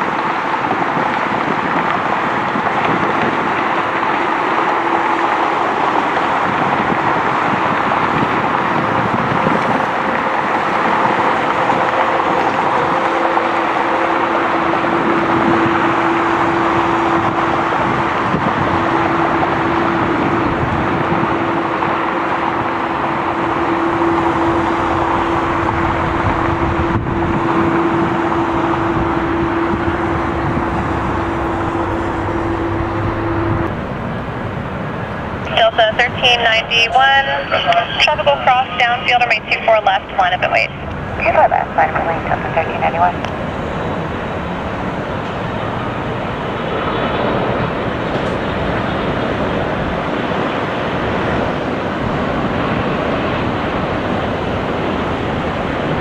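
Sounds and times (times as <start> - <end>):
jet engines at taxi power: 0.0 - 56.0.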